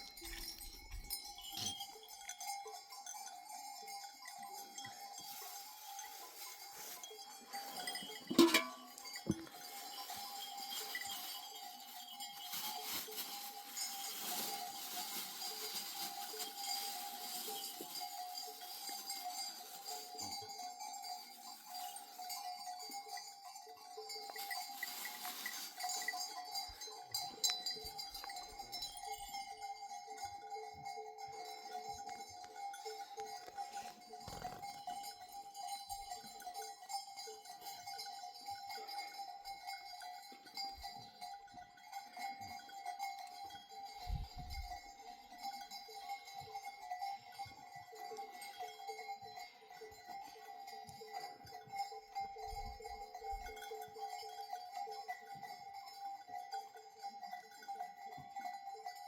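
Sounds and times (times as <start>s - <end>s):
goat bells clinking: 0.0s - 59.0s.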